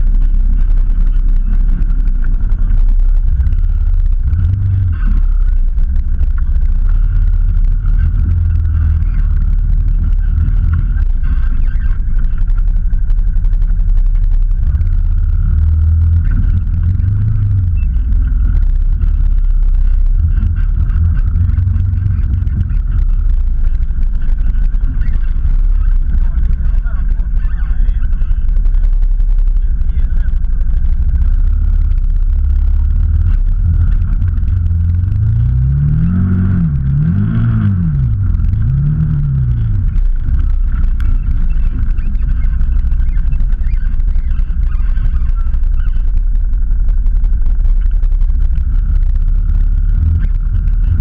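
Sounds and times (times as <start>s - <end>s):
off-road vehicle engine rumbling: 0.0s - 51.0s.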